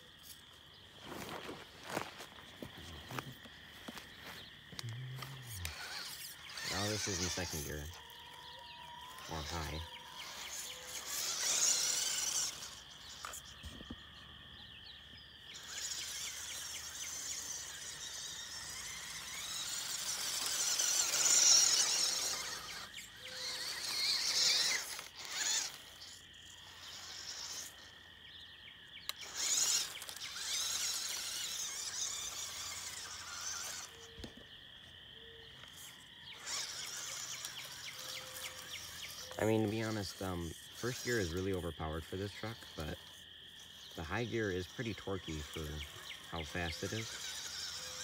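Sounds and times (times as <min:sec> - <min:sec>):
toy truck electric motor whine: 0:00.0 - 0:48.0.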